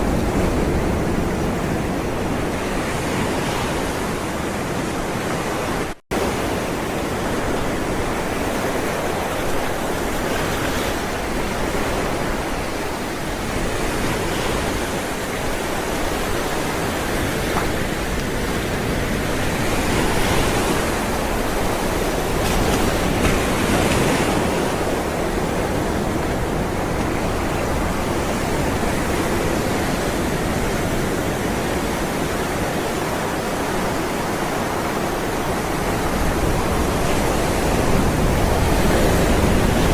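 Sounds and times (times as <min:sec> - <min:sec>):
ocean waves rolling: 0:00.0 - 0:39.9.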